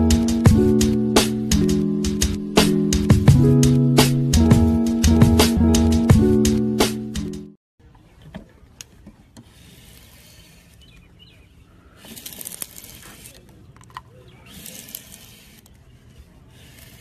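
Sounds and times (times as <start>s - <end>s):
blade shaving wood: 0.0s - 5.6s, 8.8s - 17.0s.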